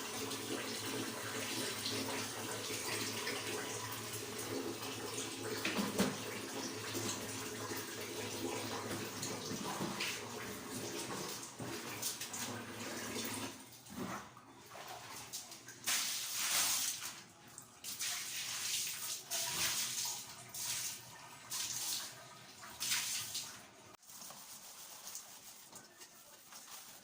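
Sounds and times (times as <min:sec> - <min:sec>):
running water splashing: 0:00.0 - 0:27.0.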